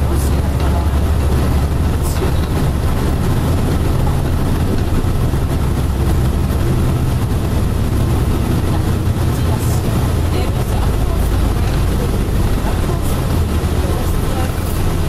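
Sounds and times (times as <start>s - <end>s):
streetcar rumble and motor hum: 0.0s - 15.0s.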